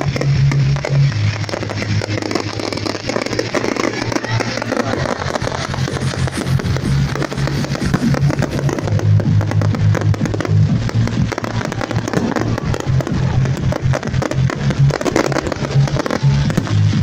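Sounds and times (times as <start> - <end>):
fireworks crackling and popping: 0.0 - 17.0
music with deep bass: 0.0 - 17.0.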